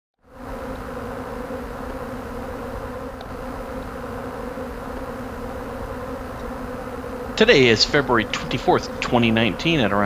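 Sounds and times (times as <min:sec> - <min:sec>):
bees buzzing: 0:00.2 - 0:10.0.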